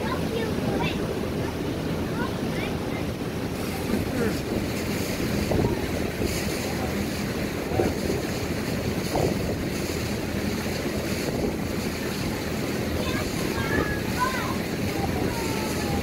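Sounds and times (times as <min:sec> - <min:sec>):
water rushing past boat: 0:00.0 - 0:16.0
wind buffeting microphone: 0:00.0 - 0:16.0.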